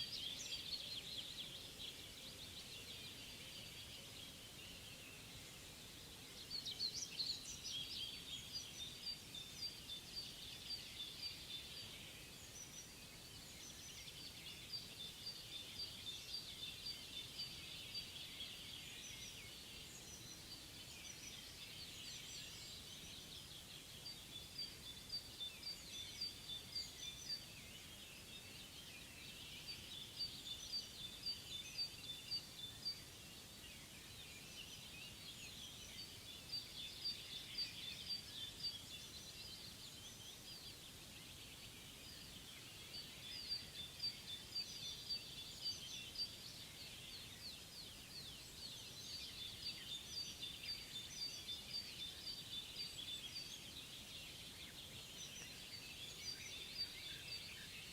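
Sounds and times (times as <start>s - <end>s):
faint background hiss: 0.0s - 57.9s
songbirds chirping and trilling: 0.0s - 57.9s.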